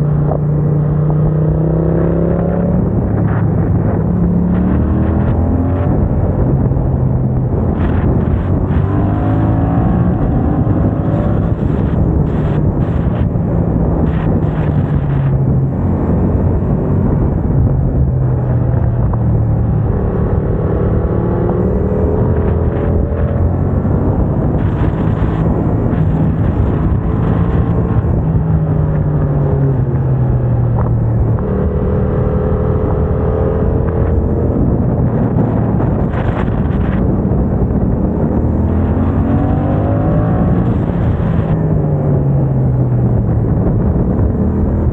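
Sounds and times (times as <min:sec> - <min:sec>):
motorcycle engine accelerating: 0:00.0 - 0:44.9
wind rushing over microphone: 0:00.0 - 0:44.9.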